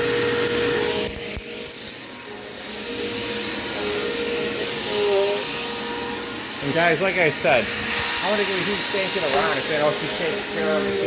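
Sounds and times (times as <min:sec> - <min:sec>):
vacuum cleaner whining: 0:00.0 - 0:11.0.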